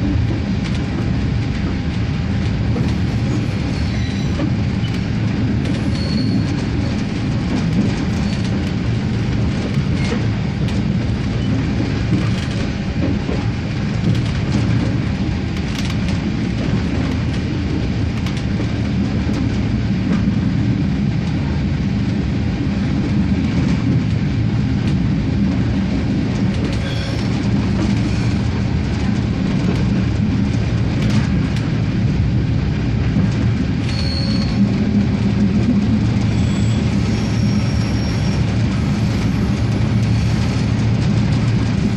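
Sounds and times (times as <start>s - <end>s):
diesel railcar engine: 0.0s - 41.9s.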